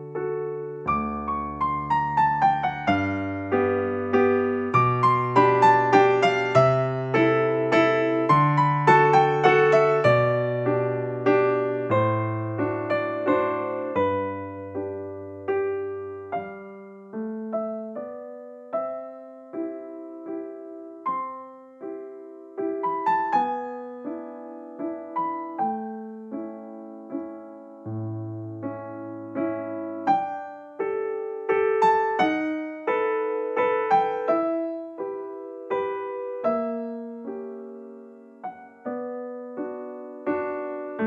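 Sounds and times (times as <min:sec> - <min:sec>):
piano melody: 0:00.0 - 0:41.0.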